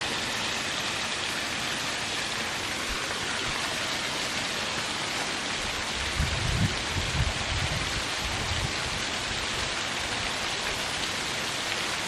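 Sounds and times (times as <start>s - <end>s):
waterfall splashing over rocks: 0.0s - 12.0s.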